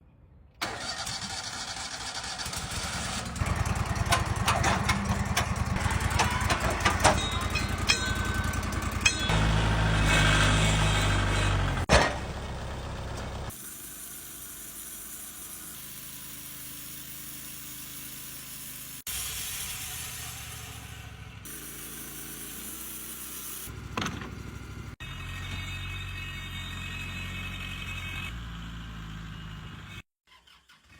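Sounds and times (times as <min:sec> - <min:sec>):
tractor engine running: 0:00.6 - 0:19.1, 0:19.9 - 0:30.0
sawmill machinery running: 0:00.6 - 0:30.0.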